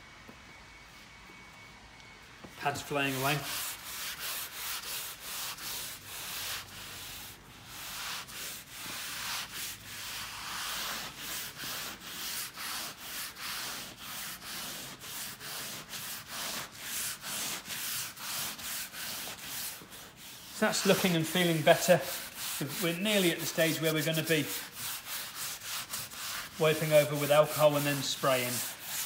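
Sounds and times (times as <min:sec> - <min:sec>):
sanding pad rasping: 0:02.6 - 0:29.0.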